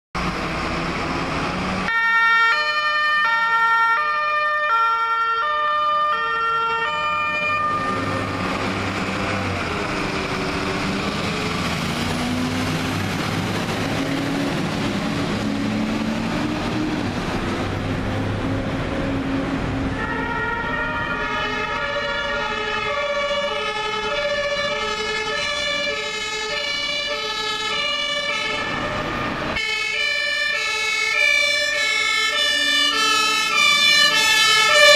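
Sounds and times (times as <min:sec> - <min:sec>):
diesel engine pulling away: 0:00.2 - 0:01.9, 0:02.6 - 0:34.9
fire engine two-tone siren: 0:00.3 - 0:34.9.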